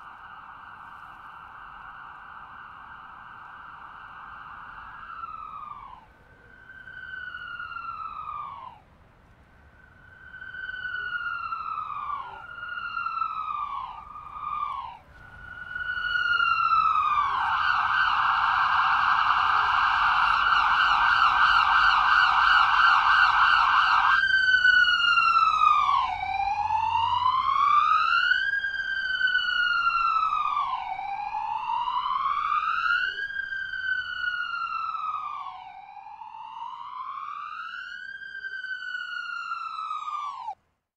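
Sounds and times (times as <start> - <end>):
ambulance siren wailing: 0.0 - 40.6.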